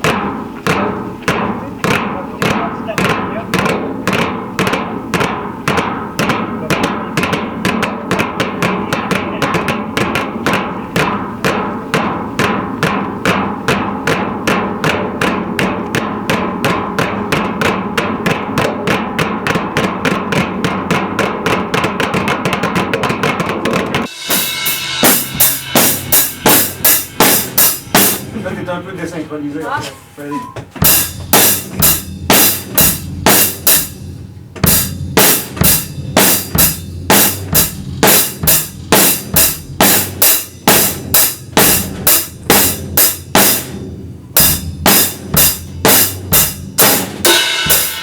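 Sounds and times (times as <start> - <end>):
rapid knocking strikes: 0.0 - 29.2, 30.5 - 48.0.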